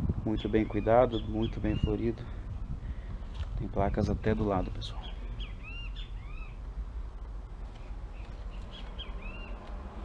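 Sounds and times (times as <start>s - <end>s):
low steady rumble: 0.0s - 10.0s
birds chirping: 0.3s - 10.0s.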